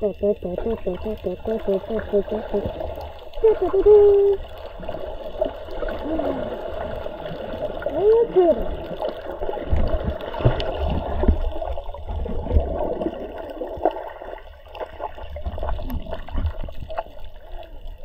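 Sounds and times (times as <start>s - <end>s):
underwater rumble: 0.0s - 18.0s
water gurgling: 0.0s - 18.0s.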